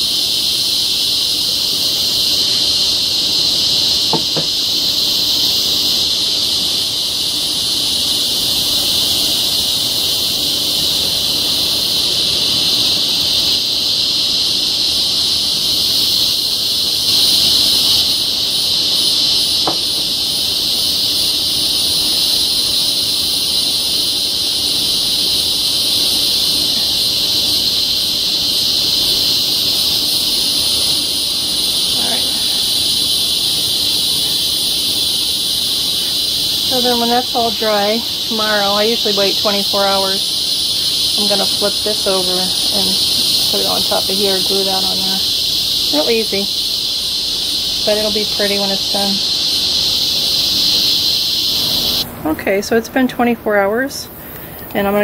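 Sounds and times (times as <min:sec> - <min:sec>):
cicadas chorus: 0:00.0 - 0:55.0.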